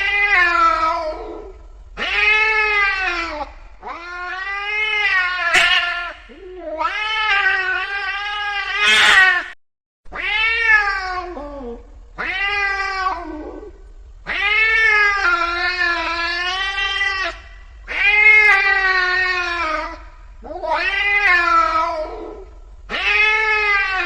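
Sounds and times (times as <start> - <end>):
cat yowling: 0.0 - 24.0.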